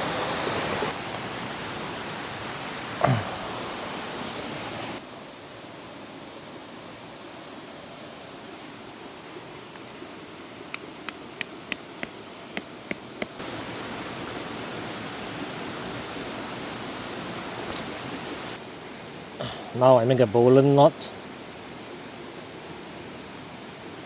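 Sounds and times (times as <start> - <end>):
river rushing: 0.0 - 19.8.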